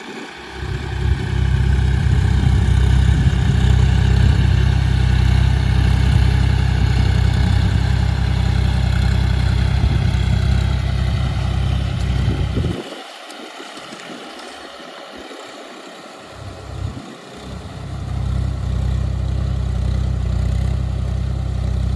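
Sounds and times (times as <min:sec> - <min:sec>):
tractor diesel engine rumbling: 0:00.0 - 0:12.9, 0:16.2 - 0:21.9.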